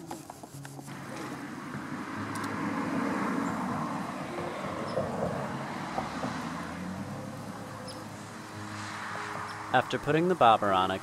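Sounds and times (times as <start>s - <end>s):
vehicle passing on a road: 0.0s - 11.0s.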